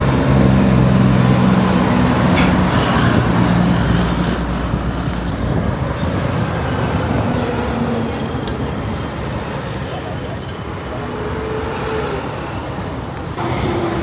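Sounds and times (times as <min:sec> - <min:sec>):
heavy truck engine running: 0:00.0 - 0:14.0
road noise: 0:00.0 - 0:14.0.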